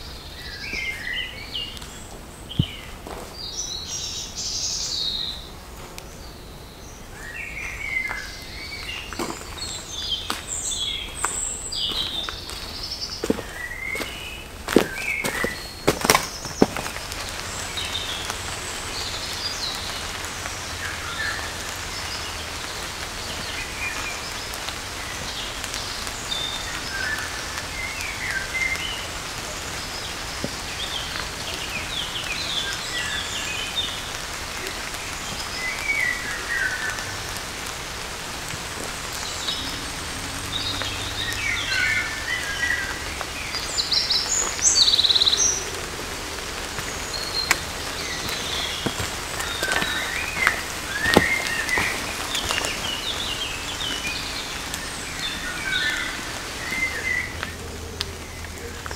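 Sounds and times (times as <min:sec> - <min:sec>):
light rain on foliage: 0:00.0 - 0:58.9
small birds chirping: 0:00.0 - 0:58.9.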